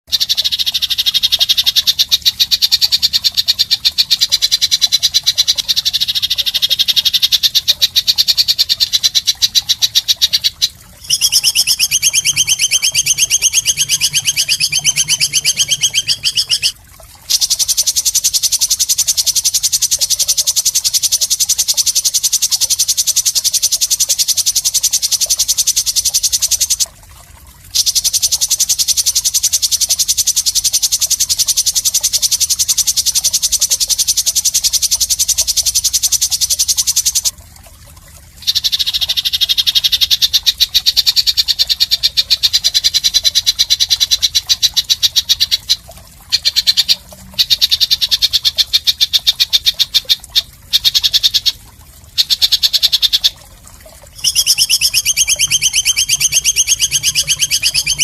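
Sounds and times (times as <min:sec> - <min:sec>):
high-pitched bird buzzing rattle: 0:00.1 - 0:26.9, 0:27.8 - 0:37.3, 0:38.4 - 0:51.6, 0:54.1 - 0:58.0.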